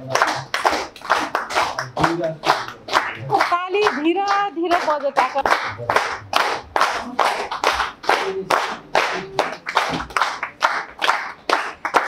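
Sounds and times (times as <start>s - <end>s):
crowd clapping in unison: 0.0s - 12.0s.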